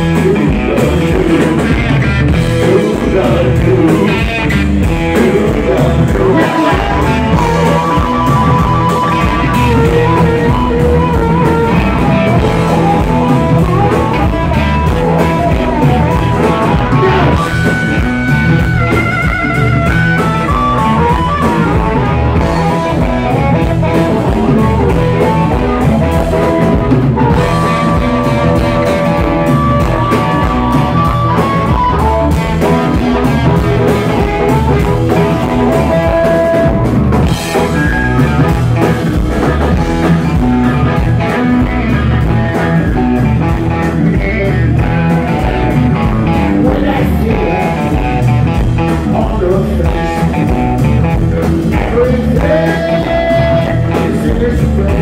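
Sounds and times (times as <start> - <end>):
drum kit: 0.0 - 55.0
electric guitar: 0.0 - 55.0
harmonica bending notes: 0.0 - 55.0.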